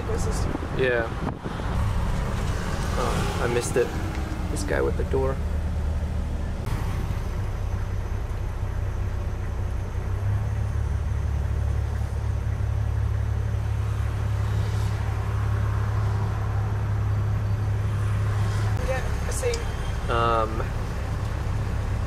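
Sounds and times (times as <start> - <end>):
car engine rumble inside cabin: 0.2 - 19.5.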